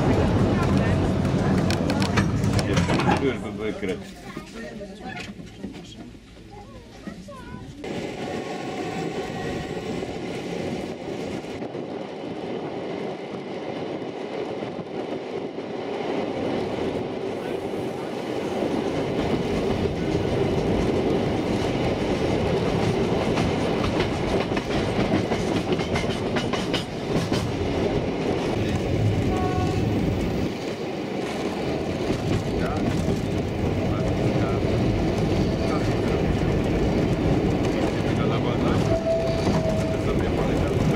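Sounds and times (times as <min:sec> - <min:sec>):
train wheels rattling on rails: 0:00.0 - 0:40.9.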